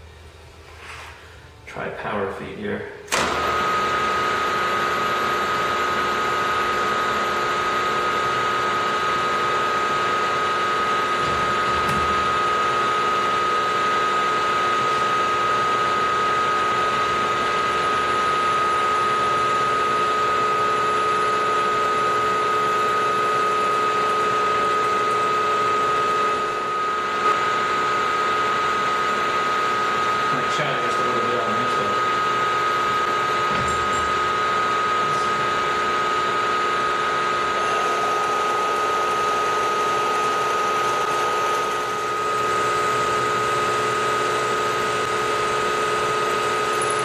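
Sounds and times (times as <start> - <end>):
milling machine high-pitched whine: 3.1 - 47.0.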